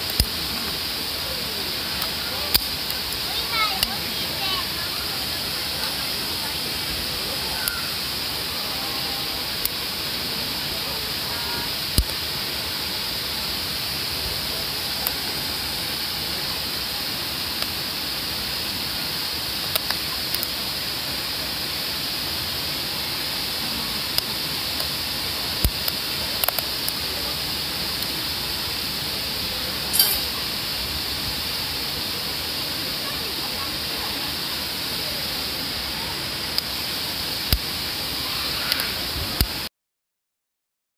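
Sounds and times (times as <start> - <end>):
wood fire hissing: 0.0 - 39.7.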